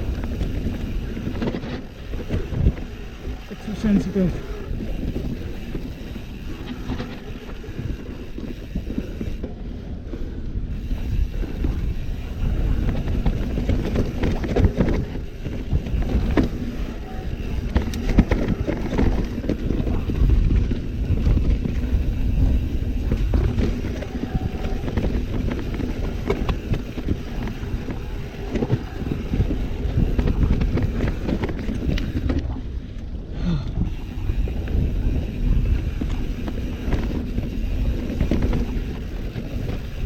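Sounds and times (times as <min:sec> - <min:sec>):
bike chain and frame rattling: 0:00.0 - 0:40.0
bike tyres rumbling over dirt: 0:00.0 - 0:40.0
wind on microphone: 0:00.0 - 0:40.0.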